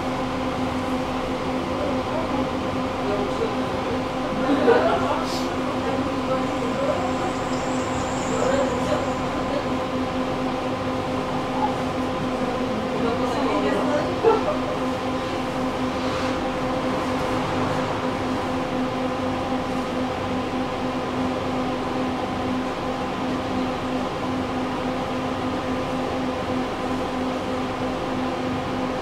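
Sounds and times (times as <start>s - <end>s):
tram electrical hum: 0.0s - 29.0s
tram ride rumble: 0.0s - 29.0s.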